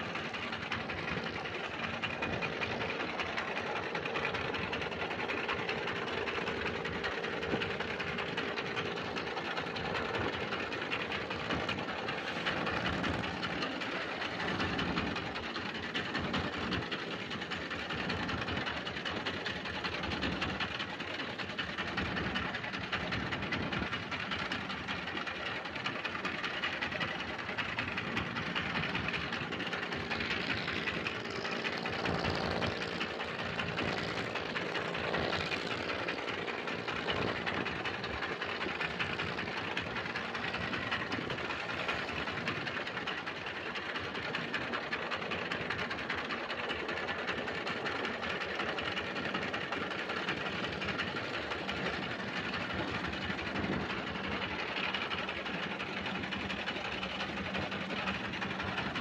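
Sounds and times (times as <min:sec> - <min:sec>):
boat engine running: 0:00.0 - 0:59.0
water rushing past hull: 0:00.0 - 0:59.0.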